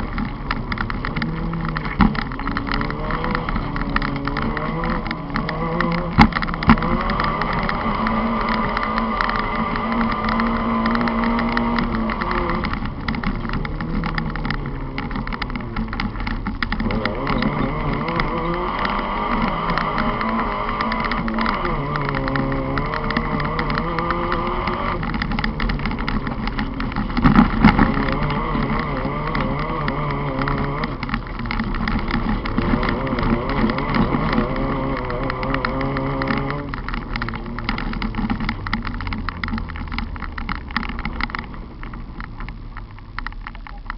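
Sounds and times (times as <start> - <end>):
racing car engine revving: 0.0 - 43.4
gravel clattering against car body: 0.0 - 43.9.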